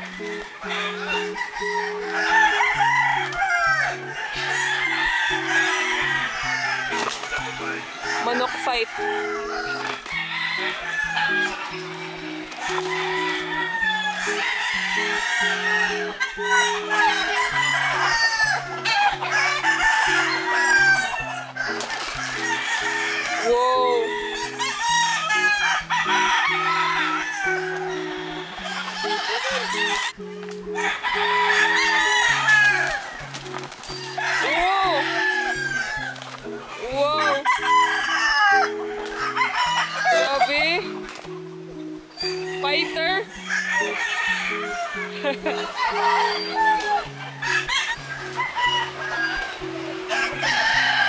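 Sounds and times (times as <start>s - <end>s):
chickens clucking: 0.0s - 51.0s
music of held low notes: 0.0s - 51.0s
roosters crowing: 0.0s - 51.0s.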